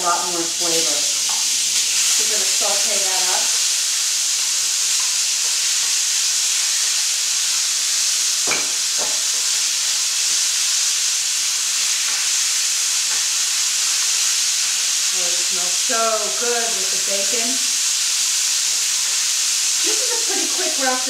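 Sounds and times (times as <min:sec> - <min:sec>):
chicken sizzling in frying pan: 0:00.0 - 0:21.0.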